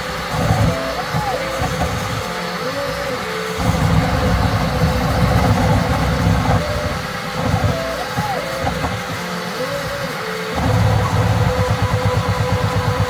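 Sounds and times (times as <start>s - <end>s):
cooling fans rushing: 0.0s - 13.0s
stepper motors whining: 0.0s - 13.0s.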